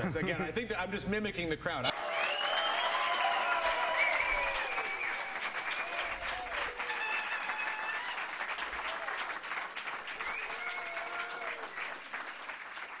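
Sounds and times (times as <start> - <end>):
audience cheering: 1.9 - 12.6
audience applauding: 1.9 - 13.0.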